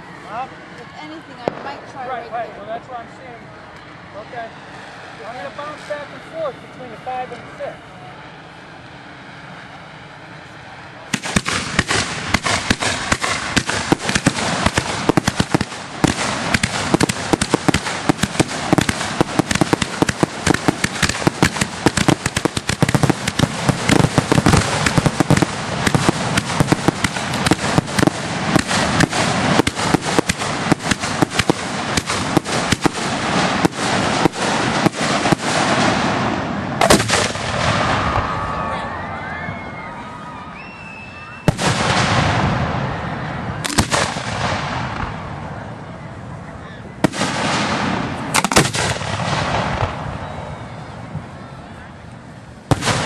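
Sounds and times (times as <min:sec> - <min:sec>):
fireworks bangs and crackling: 0:00.3 - 0:02.8, 0:03.8 - 0:39.8, 0:41.3 - 0:53.0.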